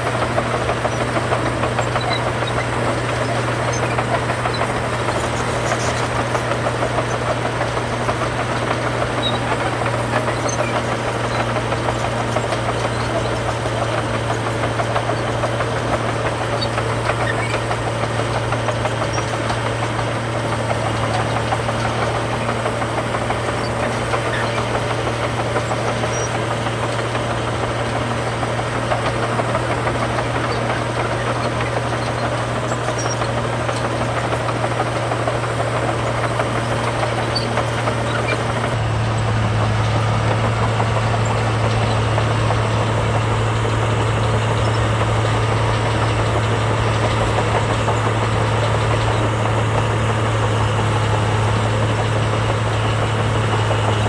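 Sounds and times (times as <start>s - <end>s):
heavy diesel engine drone: 0.0s - 54.0s.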